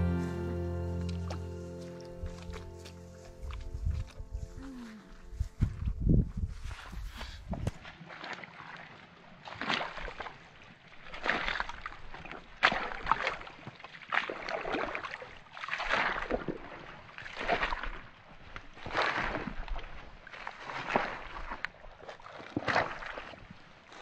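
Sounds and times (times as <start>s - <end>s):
footsteps through wet mud and water: 0.0s - 24.0s.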